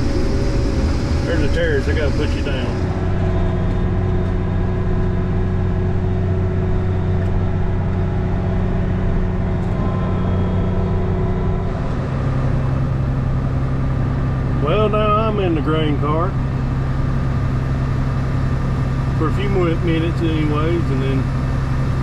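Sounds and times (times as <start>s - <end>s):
combine engine and threshing drone: 0.0s - 22.0s.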